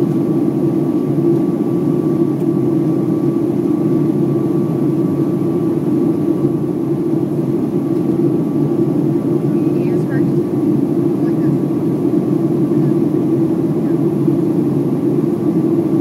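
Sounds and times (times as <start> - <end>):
jet engines and airflow rumble: 0.0 - 16.0.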